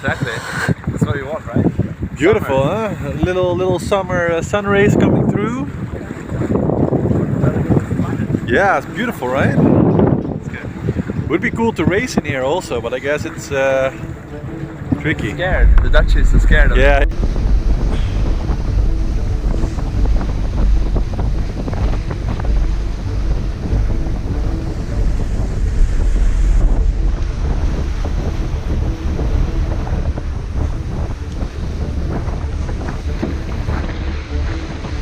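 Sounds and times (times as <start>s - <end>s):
water rushing past hull: 0.0s - 35.0s
wind buffeting microphone: 0.0s - 35.0s.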